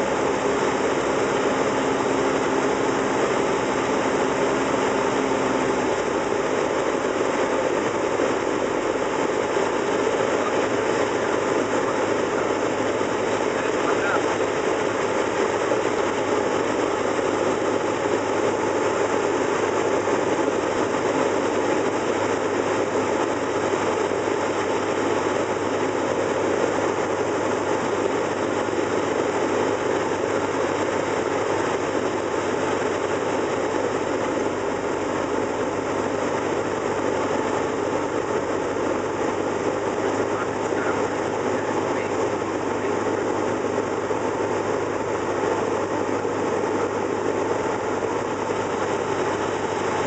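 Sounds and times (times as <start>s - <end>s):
propeller plane engine droning: 0.0s - 50.0s.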